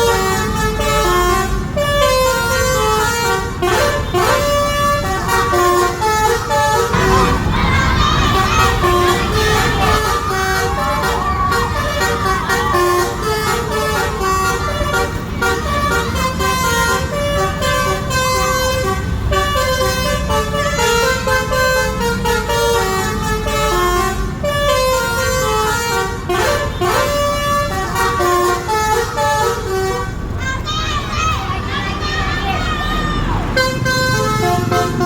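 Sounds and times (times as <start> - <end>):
bus engine rumble: 0.0 - 35.0
multi-tone musical bus horn: 0.0 - 35.0
traffic: 0.0 - 35.0.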